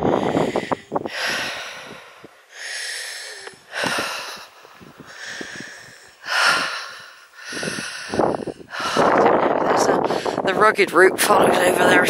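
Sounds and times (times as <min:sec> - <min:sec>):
heavy breathing: 0:00.0 - 0:10.5.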